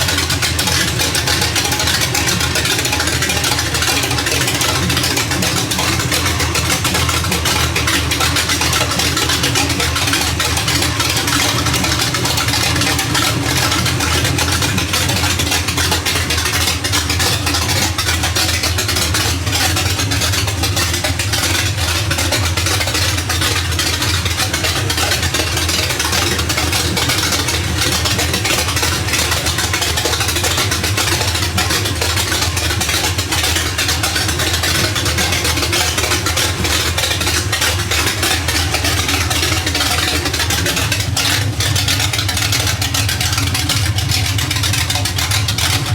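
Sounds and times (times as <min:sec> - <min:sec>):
loud truck engine idling: 0:00.0 - 0:45.9.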